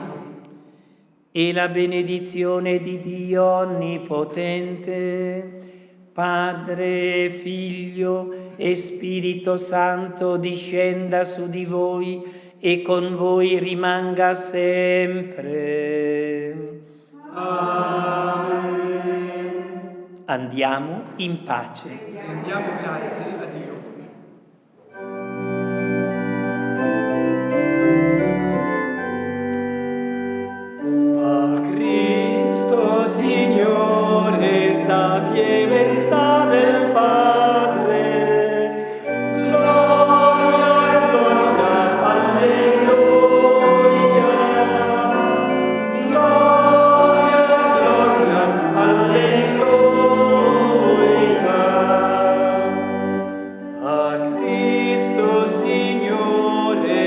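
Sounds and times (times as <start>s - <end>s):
voices singing a hymn: 0.0s - 0.8s, 1.4s - 20.2s, 22.2s - 24.2s, 30.5s - 57.0s
church organ: 0.0s - 21.2s, 24.7s - 57.0s.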